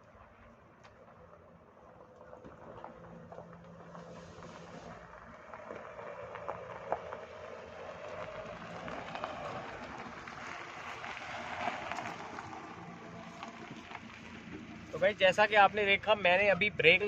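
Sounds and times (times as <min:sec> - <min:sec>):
car engine: 0:00.0 - 0:17.0.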